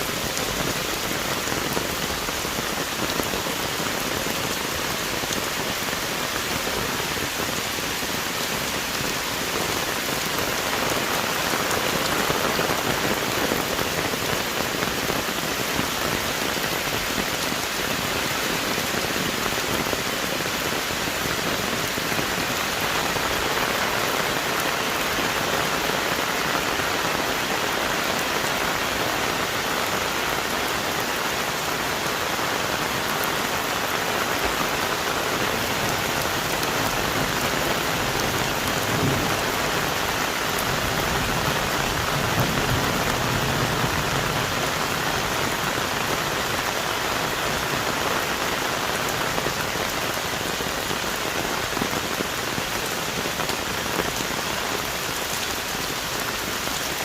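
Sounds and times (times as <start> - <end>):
heavy rain on trees and leaves: 0.0 - 57.0.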